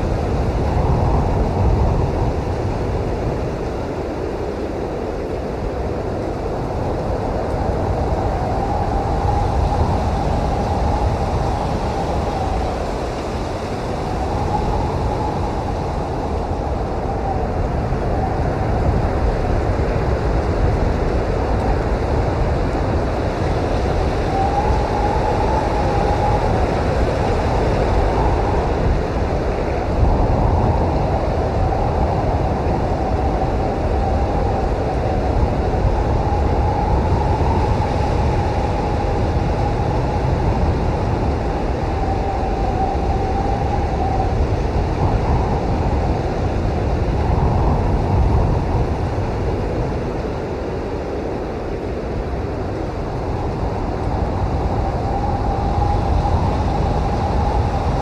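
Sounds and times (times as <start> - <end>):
wind blowing hard: 0.0 - 58.0.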